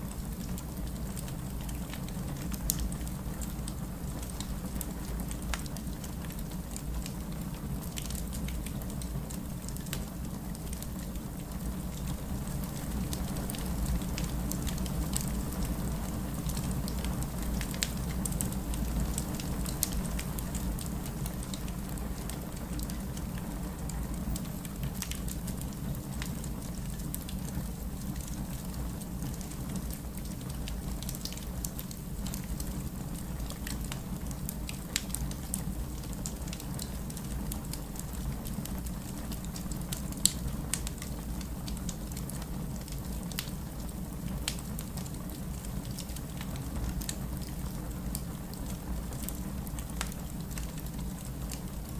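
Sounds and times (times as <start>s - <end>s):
low rumble of fire: 0.0s - 51.9s
fire crackling and popping: 0.1s - 51.9s.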